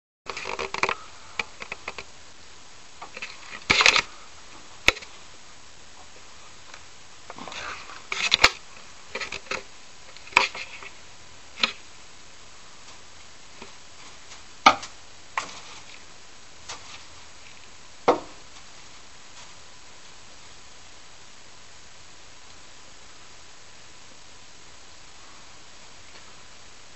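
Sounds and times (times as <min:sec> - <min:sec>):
low steady hiss: 0:00.3 - 0:26.9.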